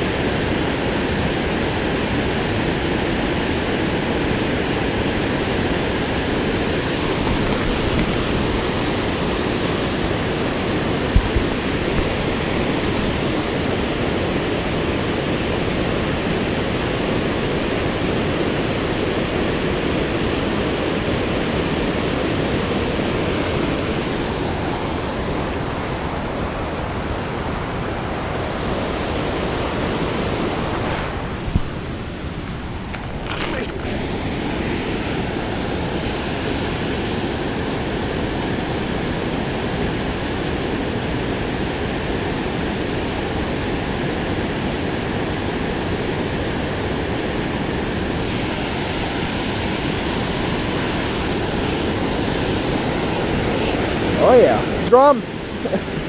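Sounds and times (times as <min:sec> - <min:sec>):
river water rushing through dam: 0:00.0 - 0:56.0.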